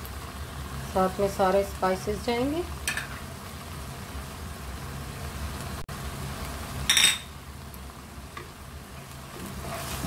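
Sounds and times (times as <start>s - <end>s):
meat sizzling in a wok: 0.0s - 10.0s.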